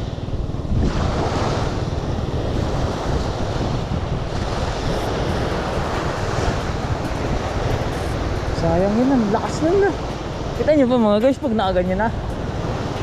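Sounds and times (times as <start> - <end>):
sea surf washing on shore: 0.0 - 13.0
wind rushing over microphone: 0.0 - 13.0.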